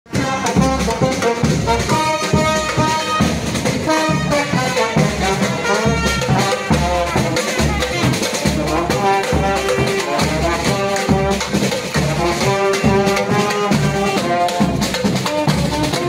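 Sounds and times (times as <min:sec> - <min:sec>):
music with brass and drums: 0:00.1 - 0:16.0.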